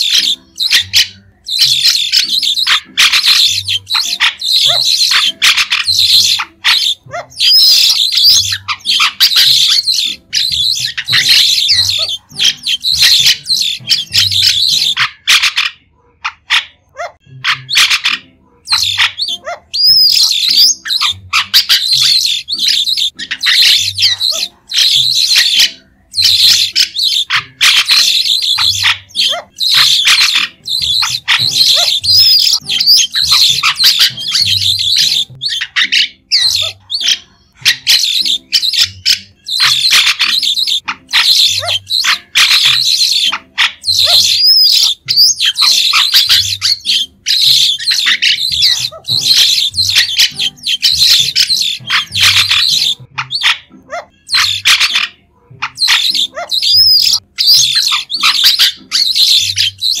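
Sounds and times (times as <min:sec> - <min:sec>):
starlings chattering calls: 0:00.0 - 1:00.0.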